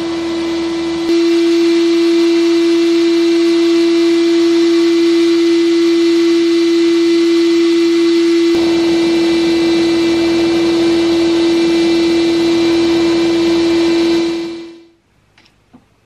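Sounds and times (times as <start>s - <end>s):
steady hum: 0.0s - 15.2s.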